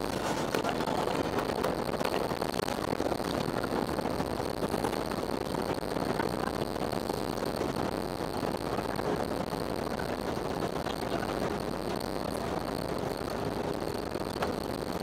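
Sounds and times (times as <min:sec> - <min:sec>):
jet engines and airflow rushing: 0:00.0 - 0:15.0.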